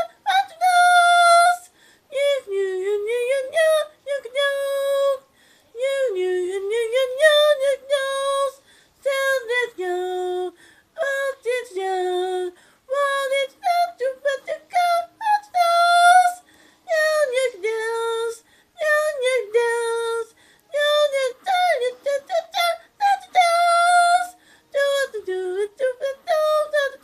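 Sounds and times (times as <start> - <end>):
high-pitched voice singing: 0.0 - 27.0.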